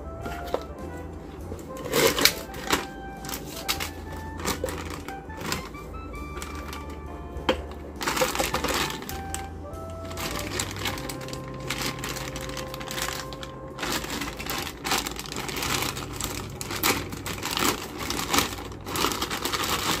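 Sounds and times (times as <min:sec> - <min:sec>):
plastic bag crinkling: 0:01.6 - 0:20.0.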